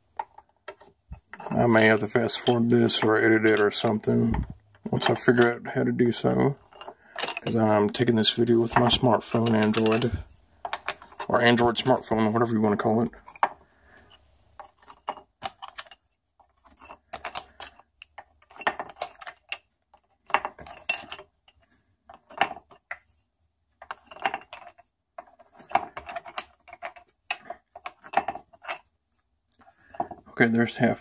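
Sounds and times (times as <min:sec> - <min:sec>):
wooden sticks clattering: 0:00.0 - 0:05.6, 0:06.2 - 0:12.3, 0:13.2 - 0:23.1, 0:23.8 - 0:28.9.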